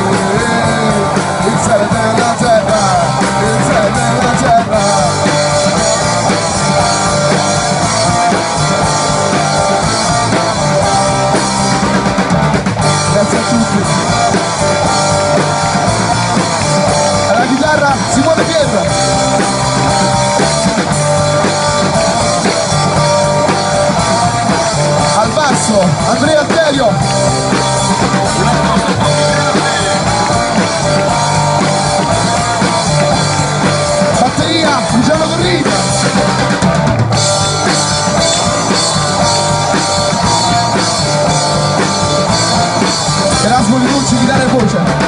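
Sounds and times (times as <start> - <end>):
bass guitar: 0.0 - 45.0
drum kit: 0.0 - 45.0
electric guitar: 0.0 - 45.0
live rock band playing: 0.0 - 45.0.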